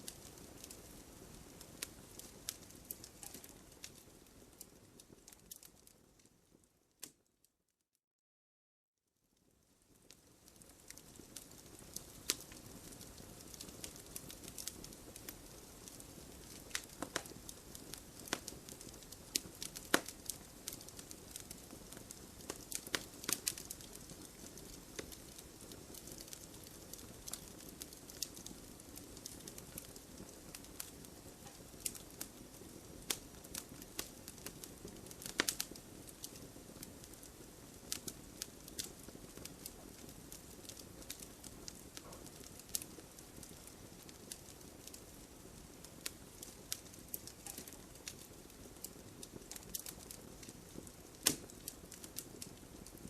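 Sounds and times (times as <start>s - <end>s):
fire crackling and popping: 0.0s - 7.3s, 9.4s - 53.0s.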